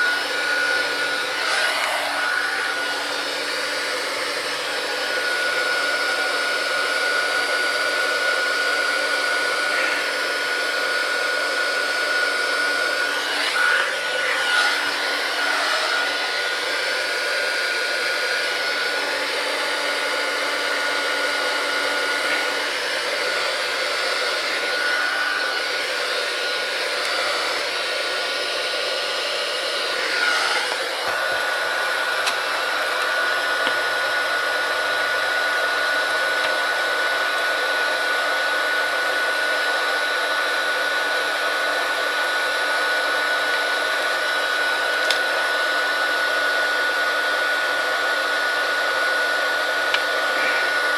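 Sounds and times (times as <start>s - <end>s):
hot-air blower rushing air: 0.0s - 50.9s.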